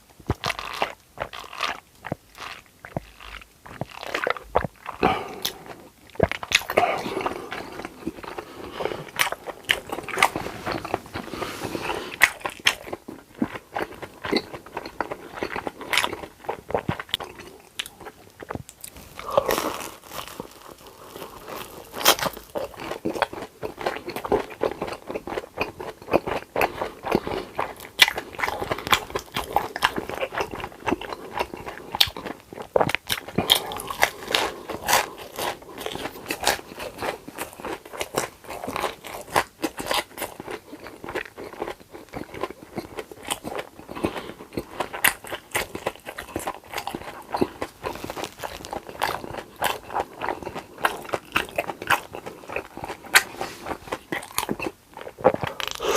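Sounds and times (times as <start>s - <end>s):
biting and chewing: 0.2s - 55.9s.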